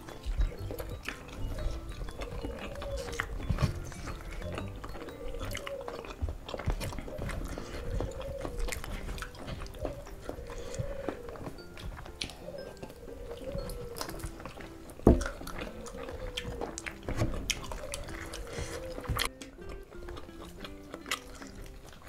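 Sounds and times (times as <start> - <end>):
mouth clicks: 0.0 - 22.0
people chewing food: 0.0 - 22.0.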